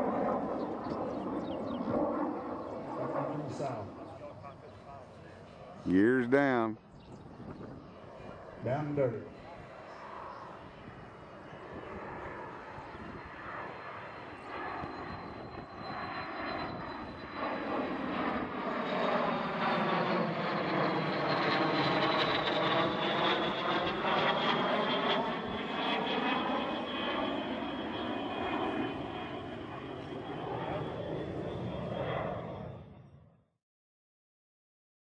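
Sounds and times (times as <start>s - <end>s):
jet passing overhead: 0.0s - 33.2s.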